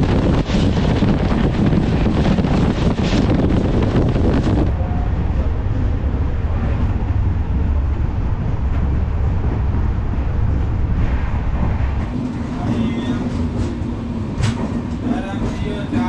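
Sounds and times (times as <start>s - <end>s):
train running rumble: 0.0s - 16.0s
wind buffeting microphone: 0.0s - 16.0s.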